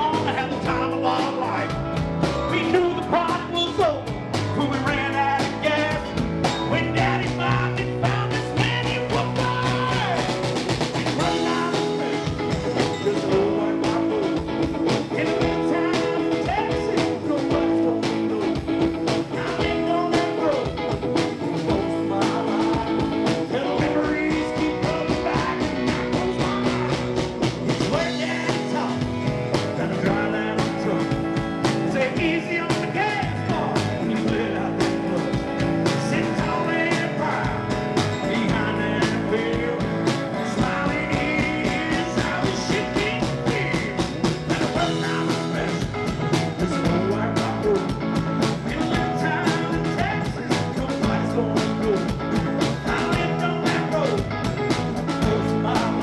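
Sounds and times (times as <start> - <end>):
country-rock band playing: 0.0 - 56.0
electric guitar: 0.0 - 56.0
steady drum beat: 0.0 - 56.0.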